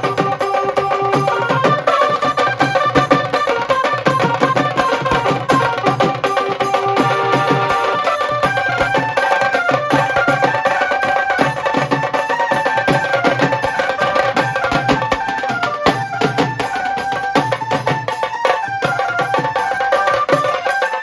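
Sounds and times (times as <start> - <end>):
drums playing fast rhythm: 0.0 - 21.0.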